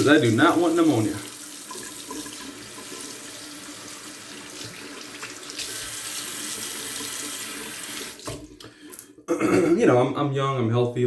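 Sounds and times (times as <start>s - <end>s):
water running from a tap: 0.0s - 9.1s.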